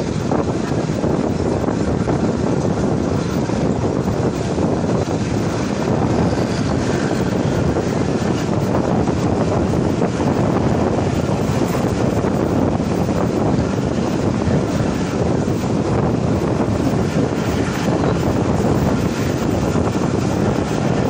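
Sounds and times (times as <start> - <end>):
train wheels rumbling on track: 0.0 - 21.0
wind buffeting microphone: 0.0 - 21.0.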